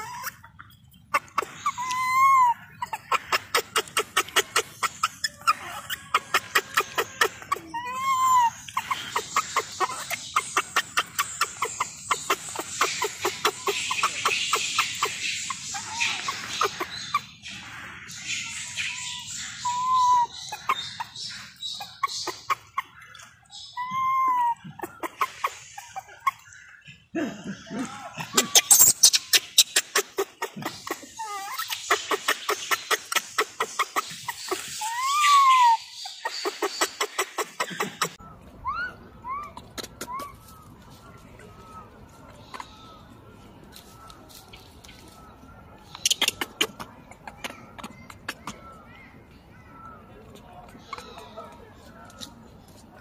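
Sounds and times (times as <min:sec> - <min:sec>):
baby macaque coo calls: 0:00.0 - 0:26.8, 0:27.5 - 0:52.8.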